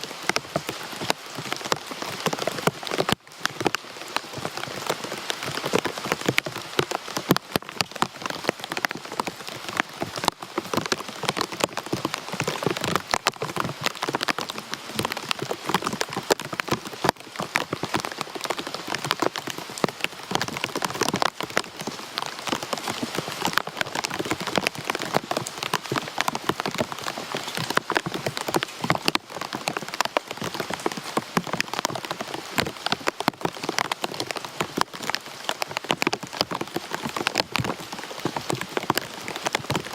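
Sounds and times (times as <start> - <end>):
rain falling on hard surfaces: 0.0 - 39.9
raindrops ticking and pattering: 0.0 - 39.9.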